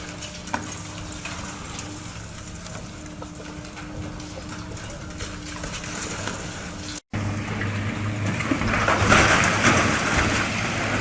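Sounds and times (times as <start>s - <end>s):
heavy machinery engine running: 0.0s - 11.0s.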